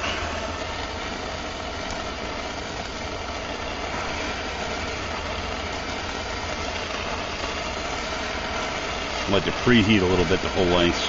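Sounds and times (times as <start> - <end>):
gas torch flame hissing: 0.0 - 11.0.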